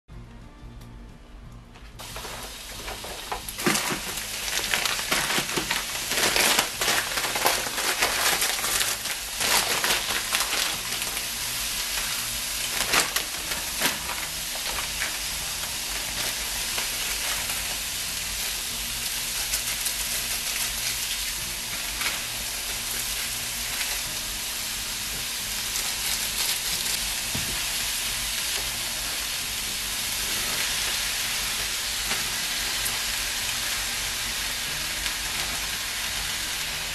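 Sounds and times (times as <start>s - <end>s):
vegetables sizzling in hot oil: 2.0s - 36.9s.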